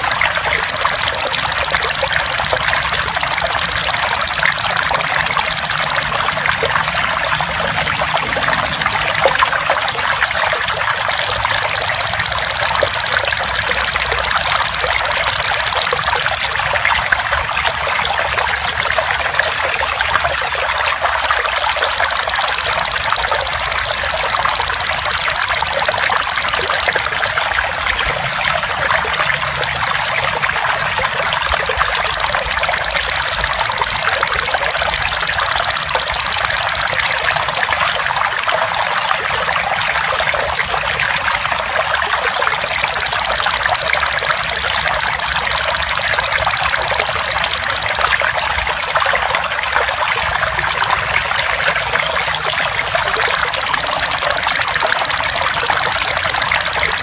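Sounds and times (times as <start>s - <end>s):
trickling water: 0.0s - 57.0s.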